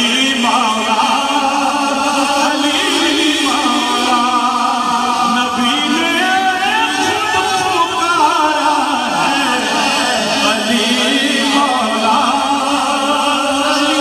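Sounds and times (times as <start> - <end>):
man singing into microphone: 0.0 - 14.0.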